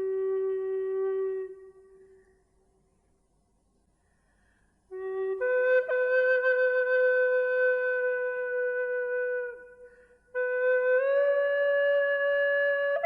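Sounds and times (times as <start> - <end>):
slow flute-like solo: 0.0 - 2.4, 4.9 - 13.0.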